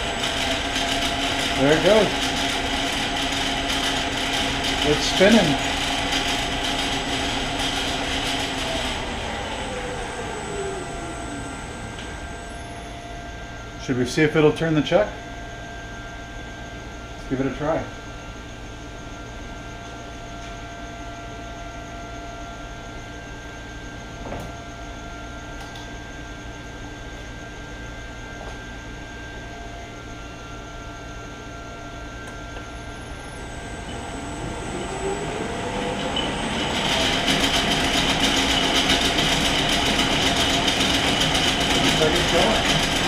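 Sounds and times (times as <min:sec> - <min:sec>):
lathe motor humming and whining: 0:00.0 - 0:43.0.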